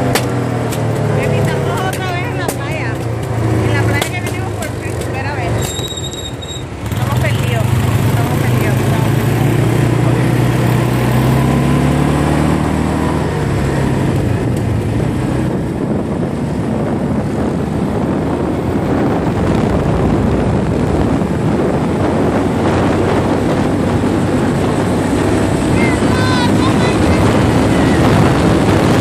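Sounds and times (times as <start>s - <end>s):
atv engine running: 0.0s - 29.0s
wind rushing over microphone: 0.0s - 29.0s.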